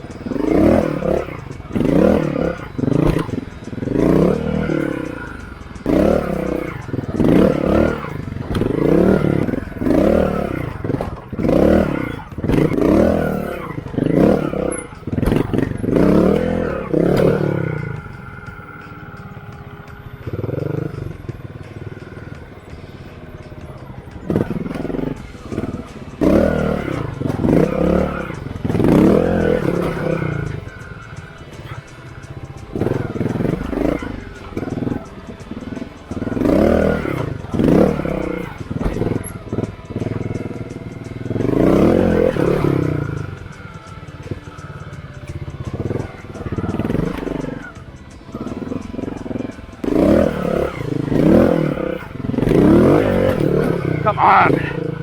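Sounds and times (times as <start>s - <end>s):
motorcycle engine throttle blips: 0.0s - 55.0s.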